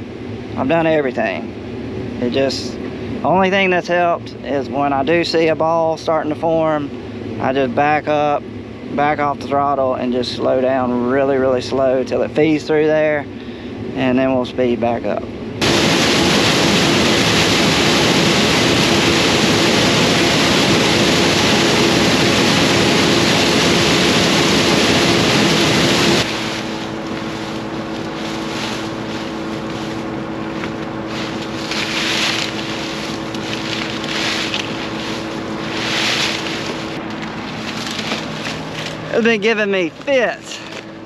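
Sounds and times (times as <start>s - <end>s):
combine harvester humming: 0.0s - 41.0s.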